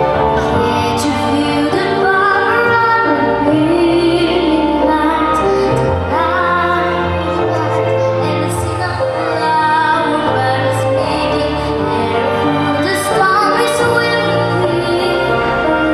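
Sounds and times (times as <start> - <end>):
instrumental accompaniment: 0.0 - 15.9
woman singing: 0.4 - 15.9.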